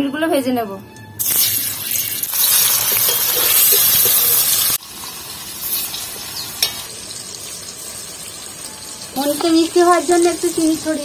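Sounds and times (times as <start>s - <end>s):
cheese cubes sizzling in hot oil: 1.2s - 11.0s.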